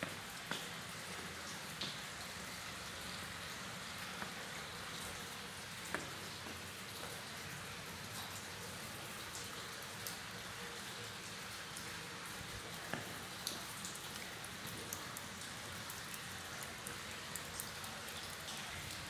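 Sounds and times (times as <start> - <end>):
single water drips: 0.0 - 10.3, 11.0 - 19.0
patter of water drops: 0.0 - 19.0.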